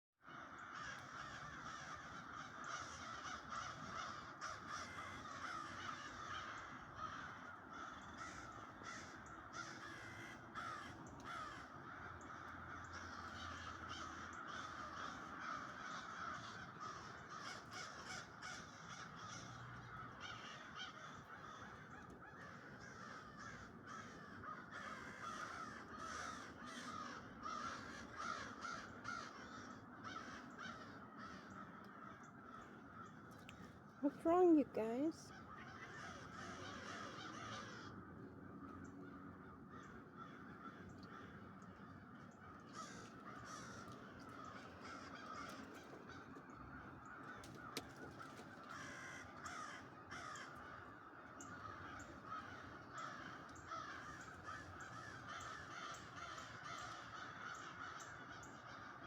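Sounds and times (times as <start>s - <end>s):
flock of birds calling: 0.2s - 59.0s.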